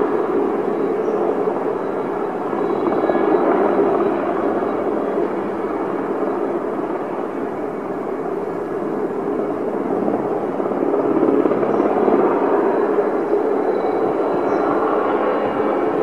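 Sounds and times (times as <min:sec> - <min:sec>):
helicopter in flight: 0:00.0 - 0:16.0.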